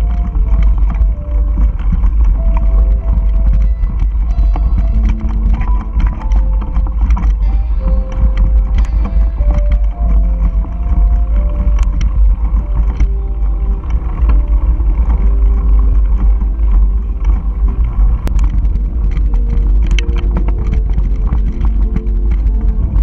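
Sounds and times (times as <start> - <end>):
background music with held notes: 0.0 - 23.0
bike clicks and rattles: 0.0 - 23.0
wind rumble on microphone: 0.0 - 23.0.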